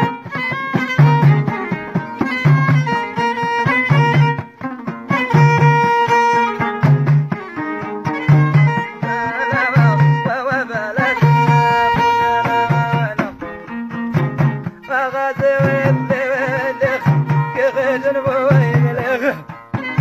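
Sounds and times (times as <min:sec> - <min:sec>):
frame drum beating: 0:00.0 - 0:20.0
lute and fiddle melody: 0:00.0 - 0:20.0.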